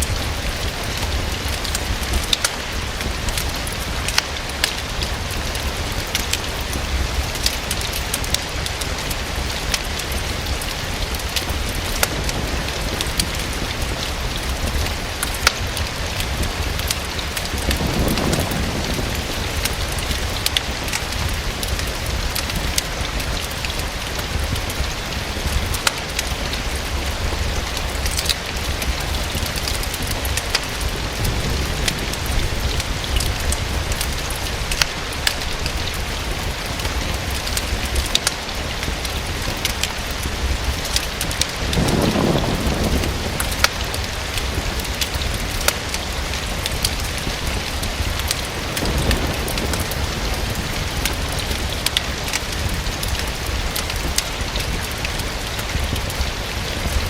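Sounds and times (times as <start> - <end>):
fireplace fire crackling: 0.0 - 57.0
rain on a window: 0.0 - 57.0.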